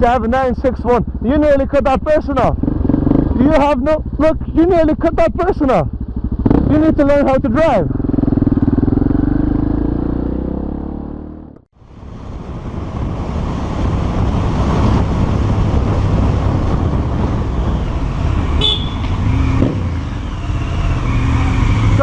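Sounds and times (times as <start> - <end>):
motorcycle engine: 0.0 - 22.0
road noise: 0.0 - 22.0.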